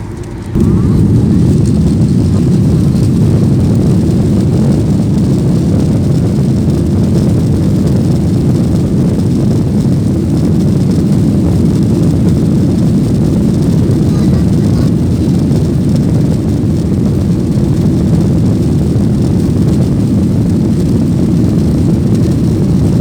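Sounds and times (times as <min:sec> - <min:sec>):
jet engines rumbling in cabin: 0:00.0 - 0:23.0.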